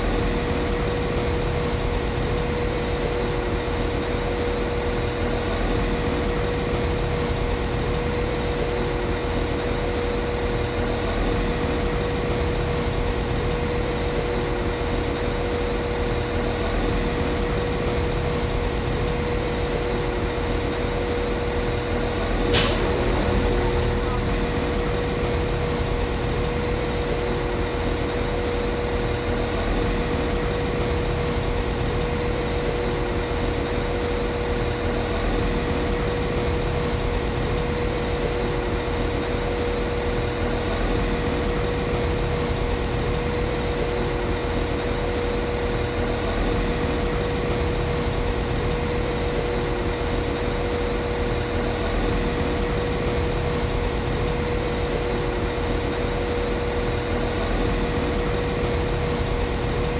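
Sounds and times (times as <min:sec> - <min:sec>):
diesel engine idling with whine: 0:00.0 - 0:59.9.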